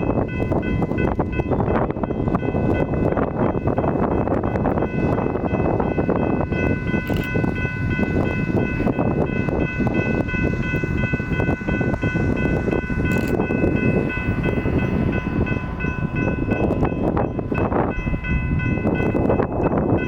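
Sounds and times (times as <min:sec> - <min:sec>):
coal train rumbling past: 0:00.0 - 0:20.0
steady high-pitched tone: 0:00.0 - 0:20.0.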